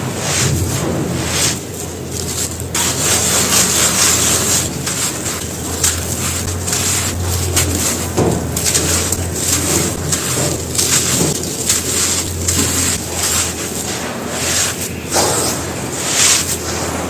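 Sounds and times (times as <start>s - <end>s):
hands crushing brittle material: 0.2s - 17.0s.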